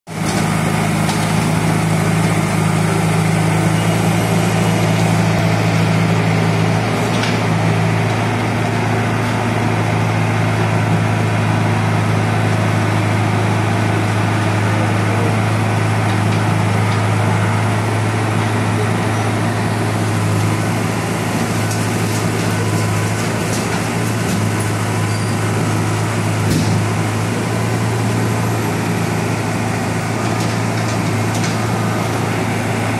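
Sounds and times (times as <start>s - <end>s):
diesel engine running: 0.1s - 32.9s.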